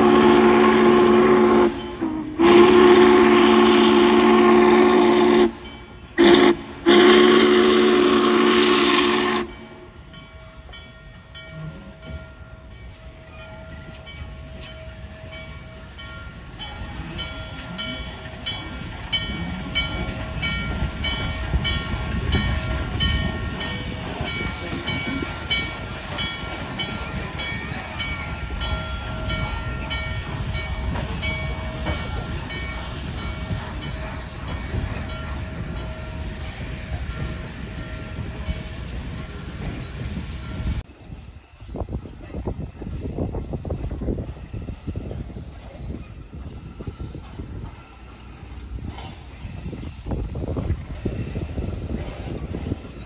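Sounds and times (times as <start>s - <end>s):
steam train rumbling past: 0.0s - 53.0s.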